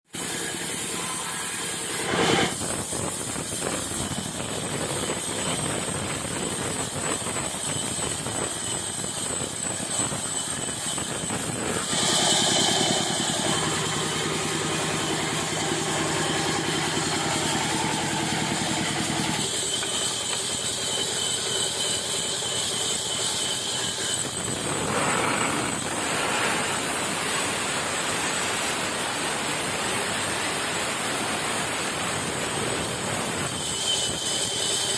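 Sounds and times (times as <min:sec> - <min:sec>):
sawmill machinery whirring: 0:00.1 - 0:34.9.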